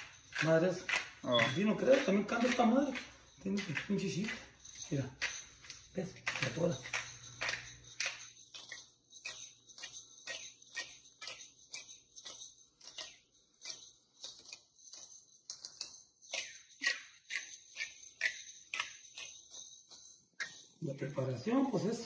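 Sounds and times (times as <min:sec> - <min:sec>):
pepper mill grinding clicks: 0:00.0 - 0:22.0.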